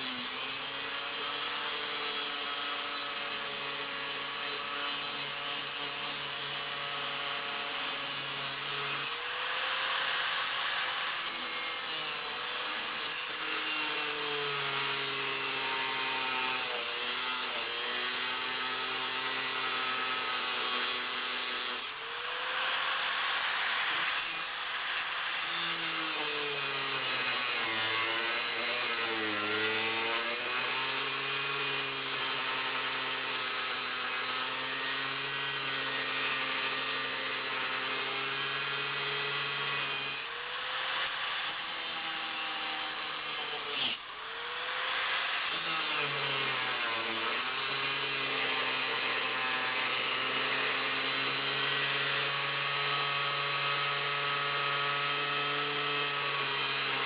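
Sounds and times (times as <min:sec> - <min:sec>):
angle grinder cutting steel: 0:00.0 - 0:57.0.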